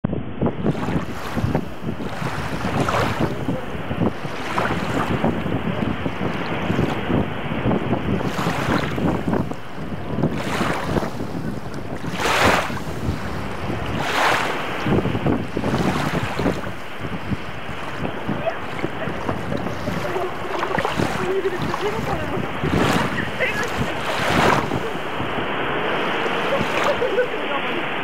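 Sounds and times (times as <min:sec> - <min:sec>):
wind buffeting microphone: 0:00.0 - 0:28.0
waves lapping and splashing: 0:00.2 - 0:28.0.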